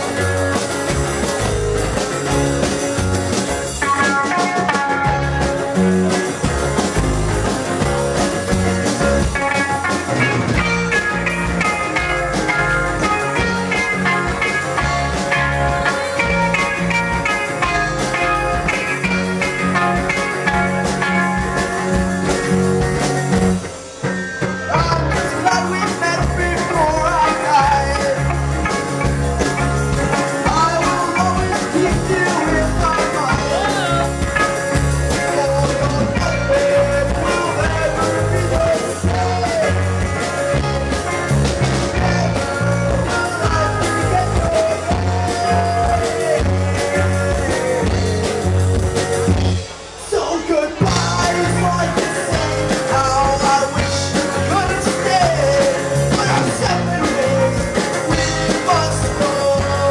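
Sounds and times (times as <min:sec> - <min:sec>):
drum kit: 0:00.0 - 0:59.9
electric guitars: 0:00.0 - 0:59.9
upright bass: 0:00.0 - 0:59.9.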